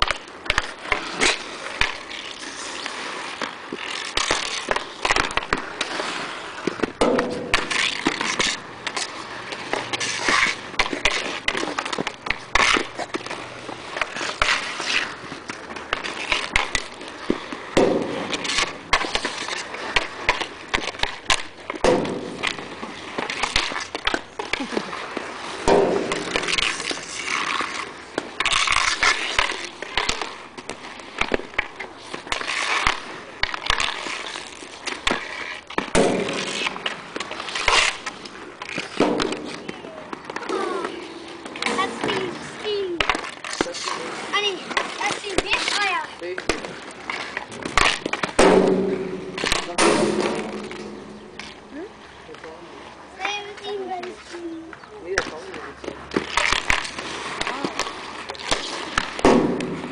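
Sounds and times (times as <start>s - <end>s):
hockey sticks striking ball: 0.0s - 51.7s, 53.2s - 59.9s
skate wheels rolling on asphalt: 0.0s - 59.9s.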